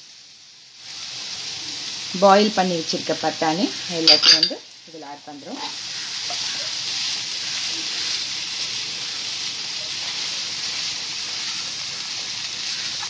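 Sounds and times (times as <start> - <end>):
filling sizzling in oil: 0.0 - 13.0.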